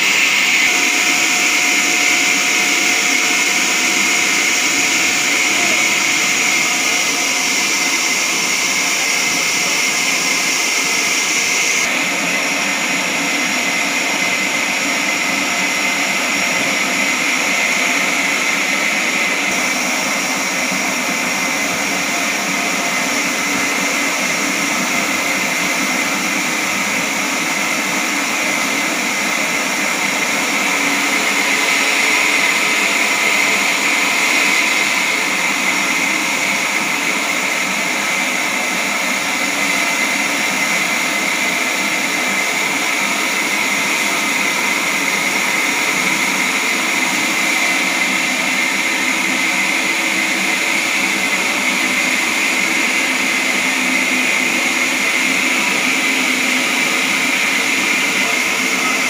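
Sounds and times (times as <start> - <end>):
band sawmill running: 0.0 - 59.0
high machine whine: 0.0 - 59.0.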